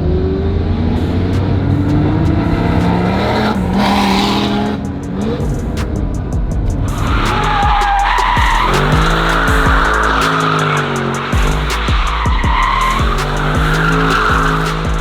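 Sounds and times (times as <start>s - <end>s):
car tyres squealing: 0.0s - 15.0s
background music with steady beat: 1.0s - 15.0s.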